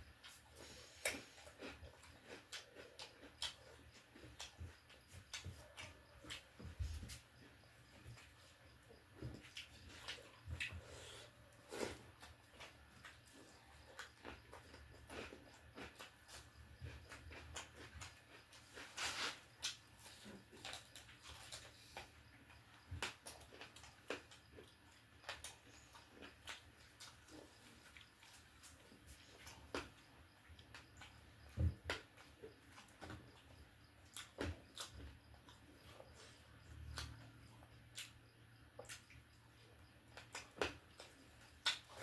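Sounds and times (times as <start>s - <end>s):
person chewing and smacking: 0.0s - 42.0s.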